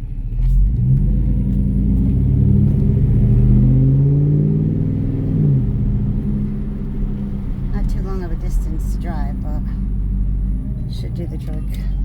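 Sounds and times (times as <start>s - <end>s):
pickup engine accelerating: 0.0s - 12.0s.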